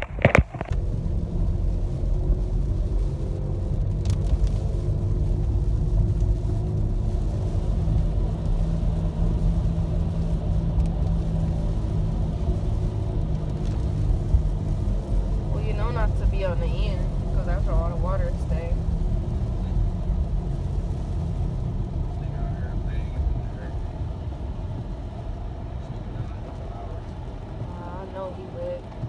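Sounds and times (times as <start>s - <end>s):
car engine rumble: 0.0s - 29.0s
road noise inside car: 0.0s - 29.0s.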